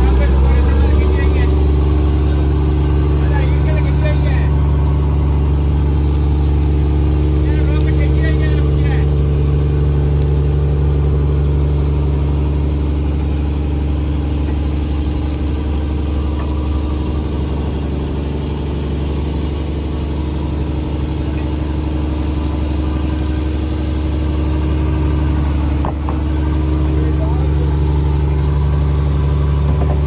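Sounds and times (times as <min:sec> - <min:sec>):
diesel engine droning: 0:00.0 - 0:30.0
faint high whine: 0:00.0 - 0:30.0.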